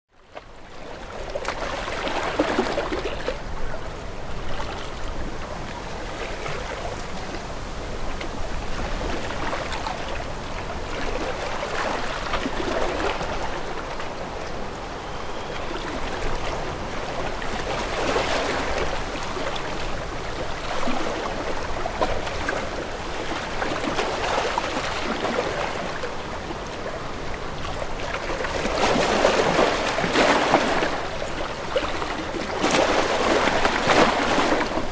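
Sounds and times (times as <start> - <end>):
sea waves washing against boat: 0.7 - 34.9.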